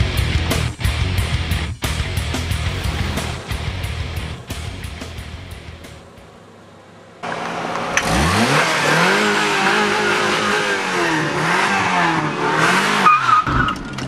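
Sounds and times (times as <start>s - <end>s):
car engine revving: 0.0s - 13.5s.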